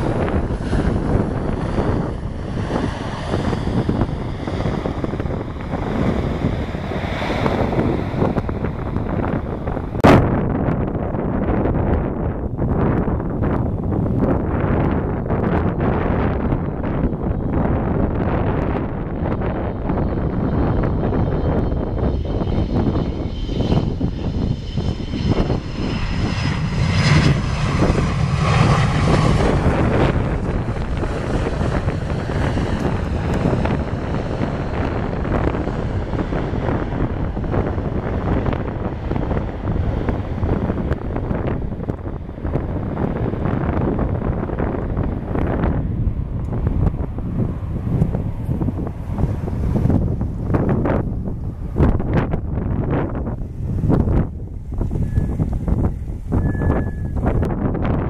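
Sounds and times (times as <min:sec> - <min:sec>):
airliner engines roaring: 0:00.0 - 0:58.0
wind buffeting microphone: 0:00.0 - 0:58.0.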